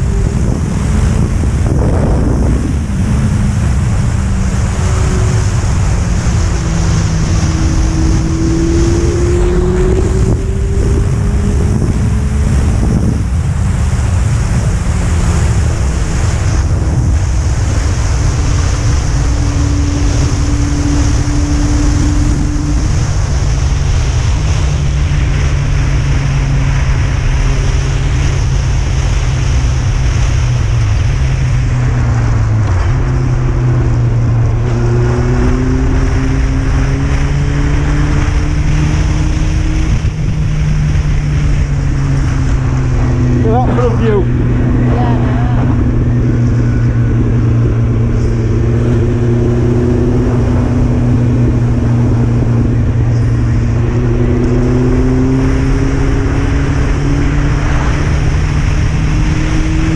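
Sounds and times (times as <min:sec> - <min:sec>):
wind buffeting on microphone: 0:00.0 - 0:59.9.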